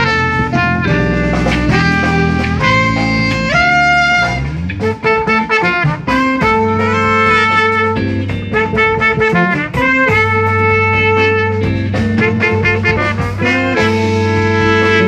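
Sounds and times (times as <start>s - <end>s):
bass line: 0.0s - 15.0s
drums: 0.0s - 15.0s
guitar: 0.0s - 15.0s
saxophone: 0.0s - 15.0s
trumpet: 0.0s - 15.0s.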